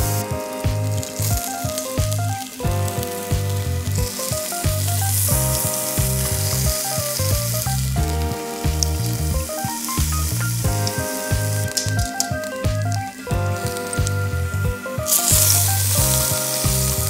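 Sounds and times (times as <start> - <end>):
meat sizzling on a grill: 0.0 - 13.0, 13.6 - 17.0
background music: 0.0 - 17.0.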